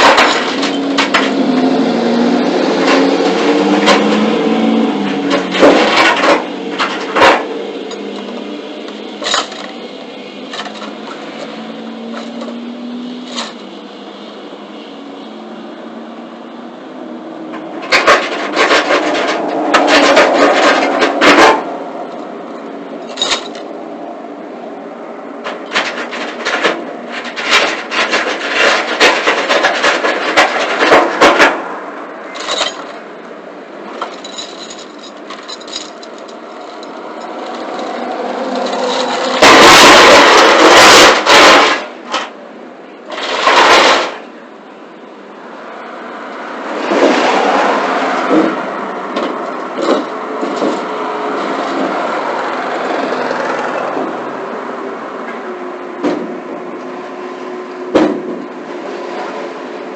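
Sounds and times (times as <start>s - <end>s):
freight scraping and clattering: 0.0s - 13.8s, 17.4s - 23.9s, 24.5s - 45.1s, 46.4s - 54.3s.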